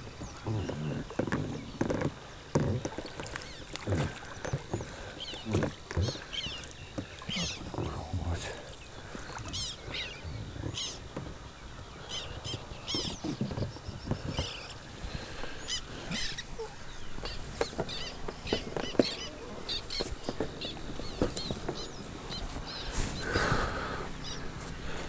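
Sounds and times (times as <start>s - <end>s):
birds chirping: 0.0s - 25.0s
frogs croaking: 0.0s - 25.0s.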